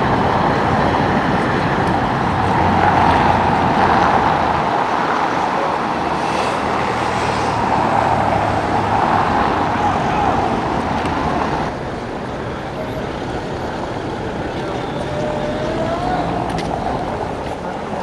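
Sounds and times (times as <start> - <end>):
cars passing on busy street: 0.0 - 18.0.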